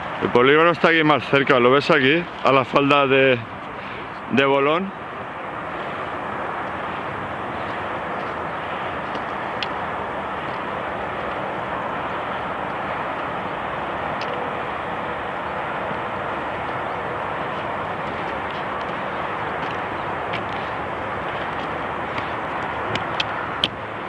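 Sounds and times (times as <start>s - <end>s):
steady outdoor rushing noise: 0.0s - 24.0s.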